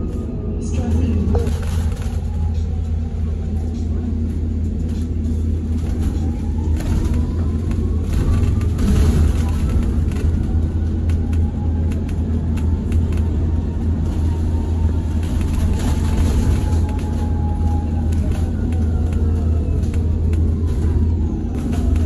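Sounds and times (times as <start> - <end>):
bus body rattles: 0.0 - 22.0
road rumble: 0.0 - 22.0.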